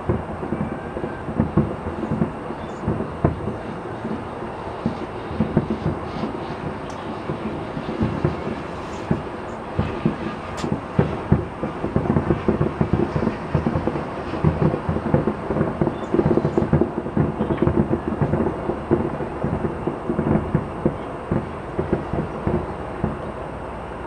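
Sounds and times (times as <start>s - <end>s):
fireworks bursting: 0.0s - 23.4s.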